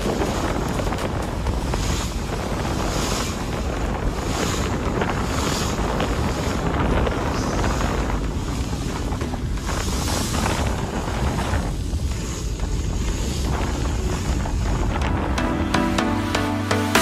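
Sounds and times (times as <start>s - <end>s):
wind buffeting microphone: 0.0s - 15.8s
sea water rushing around boat: 0.0s - 17.0s.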